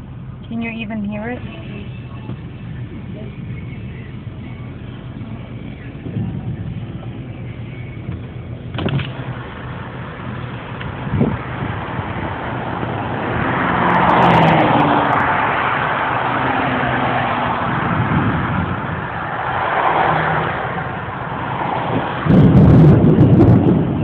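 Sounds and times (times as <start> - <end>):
loud low rumble: 0.0 - 24.0
low engine hum: 0.0 - 24.0.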